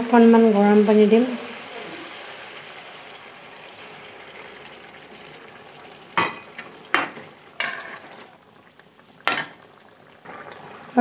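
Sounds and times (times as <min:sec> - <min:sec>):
curry sizzling in pan: 0:00.0 - 0:11.0.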